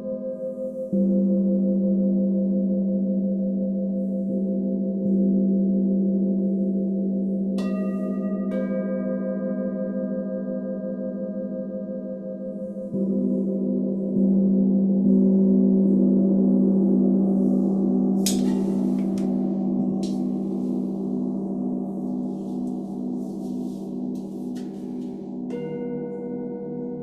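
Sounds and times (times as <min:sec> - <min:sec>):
sound bowls ringing: 0:00.0 - 0:27.0.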